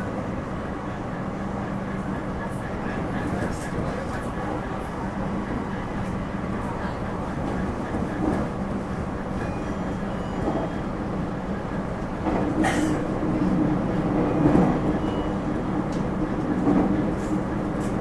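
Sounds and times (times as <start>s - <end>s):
electric train hum: 0.0s - 18.0s.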